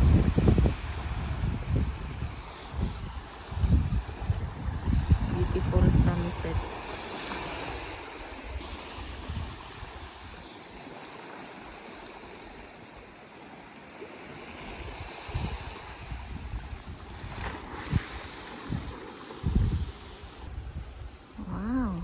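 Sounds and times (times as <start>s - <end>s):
wind buffeting microphone: 0.0s - 11.8s, 14.4s - 22.0s
ocean waves washing on beach: 0.0s - 21.4s.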